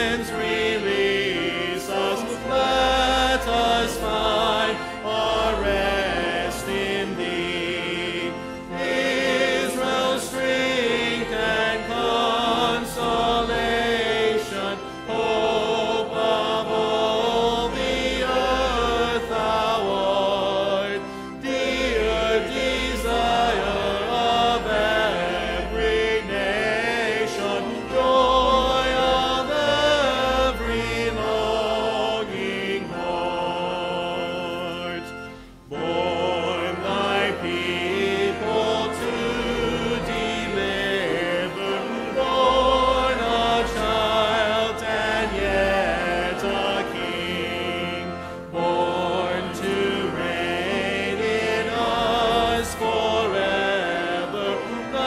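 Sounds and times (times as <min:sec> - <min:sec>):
choir and congregation singing a hymn: 0:00.0 - 0:55.0
sustained low accompaniment: 0:00.0 - 0:55.0.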